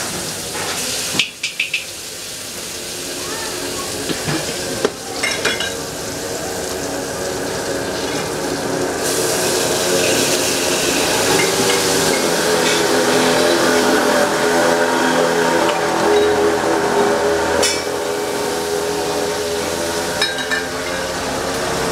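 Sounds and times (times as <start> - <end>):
paste sizzling in oil: 0.0 - 21.9.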